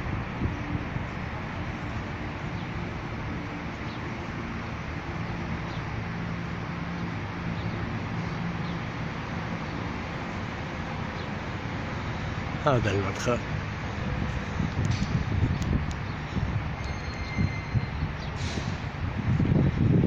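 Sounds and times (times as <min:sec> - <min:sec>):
birds chirping: 0:00.5 - 0:06.2, 0:06.8 - 0:14.5, 0:15.4 - 0:18.5.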